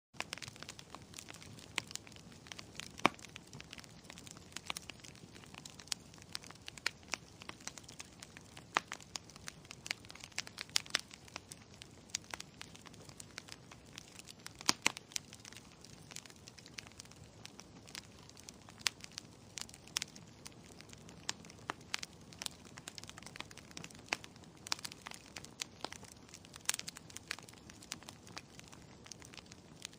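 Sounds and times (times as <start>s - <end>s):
fire crackling and popping: 0.2s - 29.9s.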